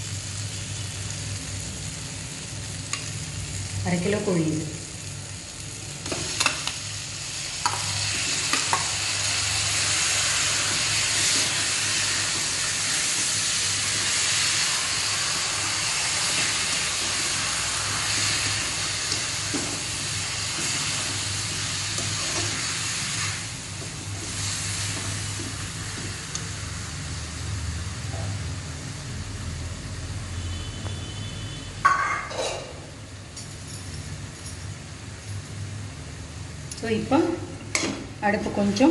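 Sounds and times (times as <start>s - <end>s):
chicken frying in hot oil: 0.0s - 31.6s.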